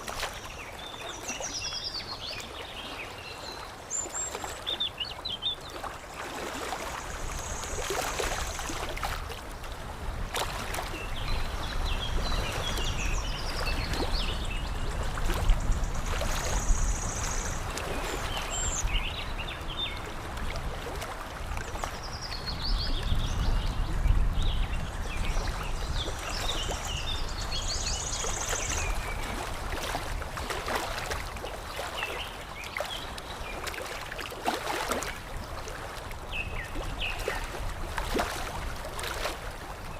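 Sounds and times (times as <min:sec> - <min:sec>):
water lapping: 0:00.0 - 0:39.9.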